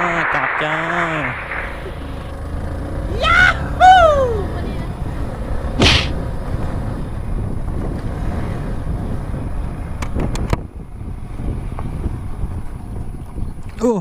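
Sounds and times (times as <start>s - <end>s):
wind buffeting microphone: 0.1s - 13.8s.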